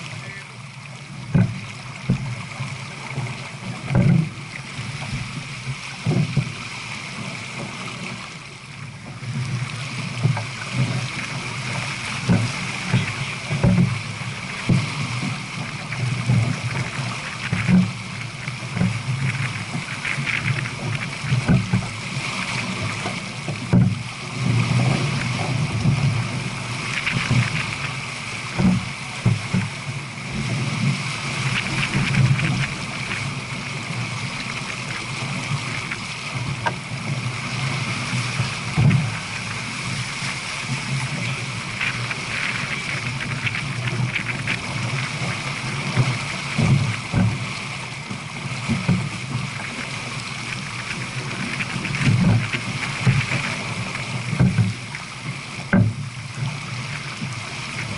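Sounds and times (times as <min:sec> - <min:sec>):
water rushing along a hull: 0:00.0 - 0:57.9
wind buffeting microphone: 0:10.4 - 0:57.9.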